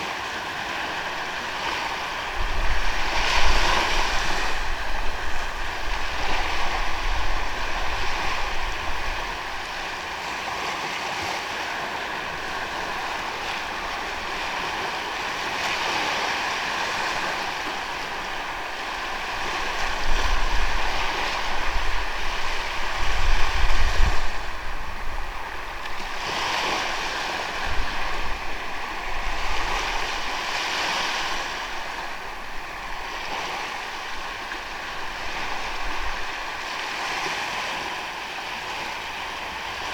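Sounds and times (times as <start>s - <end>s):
ocean waves on beach: 0.0s - 39.9s
wind gusts on microphone: 0.0s - 39.9s.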